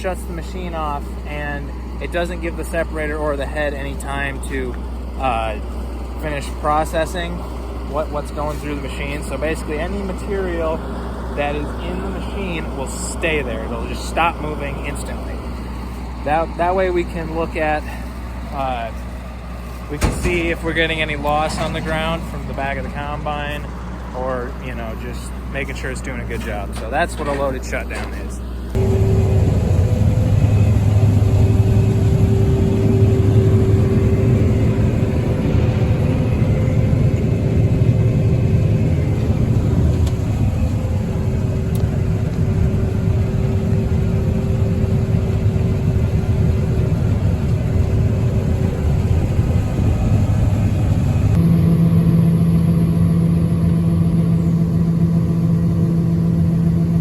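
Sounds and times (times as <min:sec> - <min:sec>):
combine harvester engine drone: 0:00.0 - 0:57.0
steady low hum: 0:00.0 - 0:57.0.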